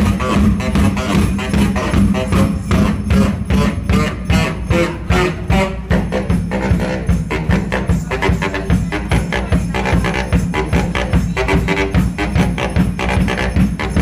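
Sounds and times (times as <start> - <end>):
drums playing: 0.0 - 14.0
saxophone playing: 0.0 - 14.0.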